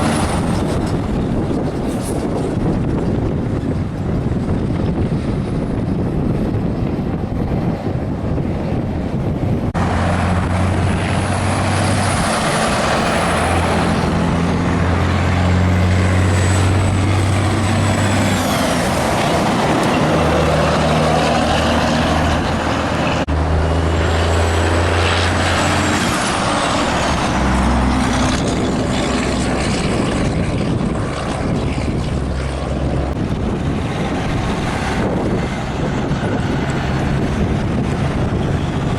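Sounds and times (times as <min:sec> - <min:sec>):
diesel truck engines: 0:00.0 - 0:38.9
tyre and road noise: 0:00.0 - 0:38.9.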